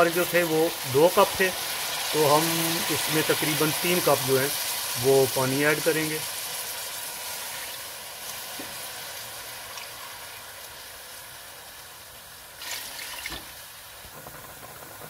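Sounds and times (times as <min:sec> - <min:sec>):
water bubbling and hissing in pot: 0:00.0 - 0:15.0.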